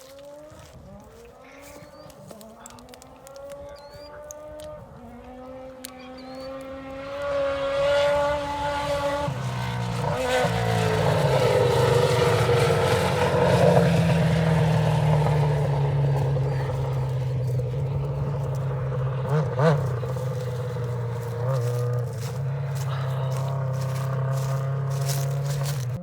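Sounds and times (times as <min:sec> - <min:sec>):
buggy engine running under load: 0:00.0 - 0:26.0.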